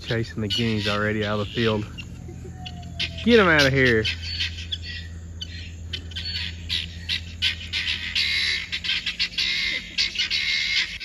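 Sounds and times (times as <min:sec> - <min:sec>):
guinea fowl alarm calls: 0:00.0 - 0:11.0.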